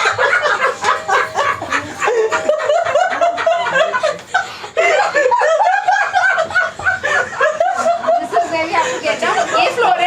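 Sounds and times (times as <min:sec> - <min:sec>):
people laughing: 0:00.0 - 0:10.0.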